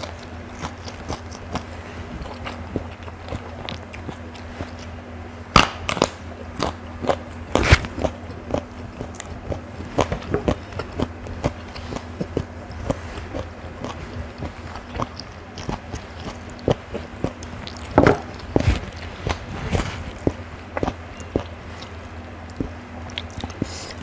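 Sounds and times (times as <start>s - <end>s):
crunchy chewing: 0.0s - 24.0s
faint low hum: 0.0s - 24.0s.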